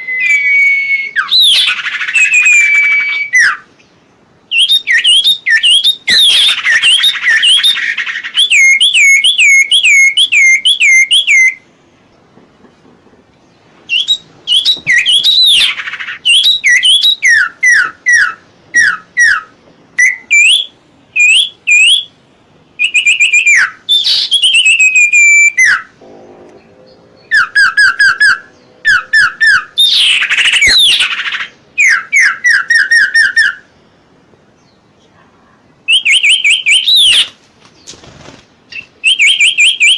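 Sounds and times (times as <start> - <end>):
songbird whistling: 0.0 - 11.6, 13.9 - 22.1, 22.8 - 25.9, 27.2 - 33.7, 35.9 - 37.4, 38.7 - 39.9.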